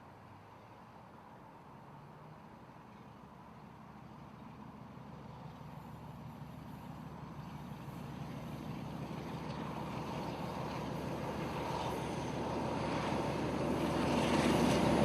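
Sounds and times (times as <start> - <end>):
diesel locomotive engine approaching: 1.6 - 15.0.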